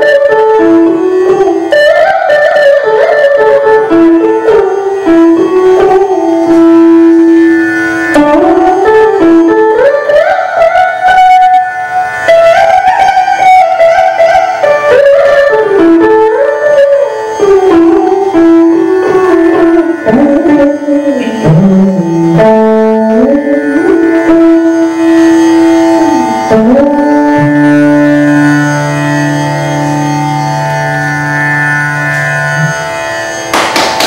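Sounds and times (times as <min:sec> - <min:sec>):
electric mandolin melody: 0:00.0 - 0:34.0.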